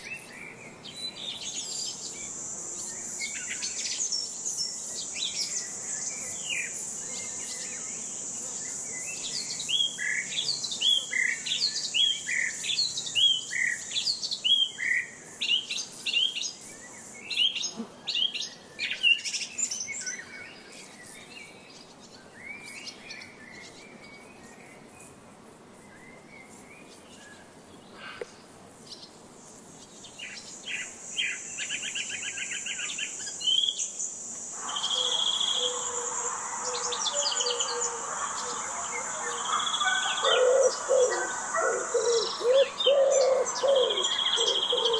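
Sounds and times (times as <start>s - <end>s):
insect drone: 0.0s - 44.9s
songbirds chirping: 0.0s - 44.9s.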